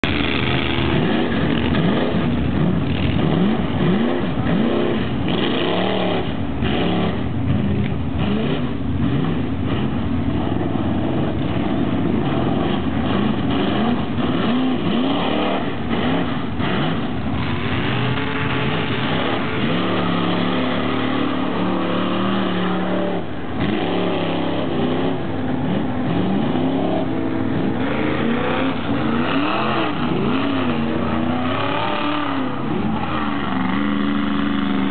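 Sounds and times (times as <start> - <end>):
truck engines revving: 0.0 - 34.9.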